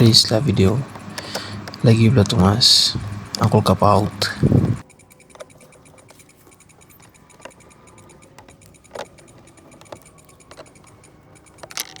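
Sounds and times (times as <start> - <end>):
light clicks and knocks: 0.0 - 12.0.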